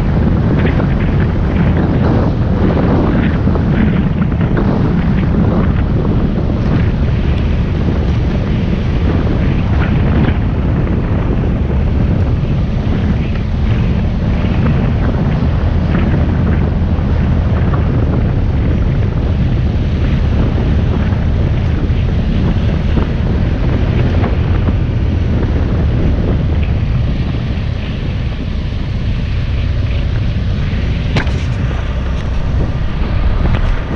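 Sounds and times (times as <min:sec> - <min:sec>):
motorcycle engine running: 0:00.0 - 0:33.9
wind buffeting microphone: 0:00.0 - 0:33.9.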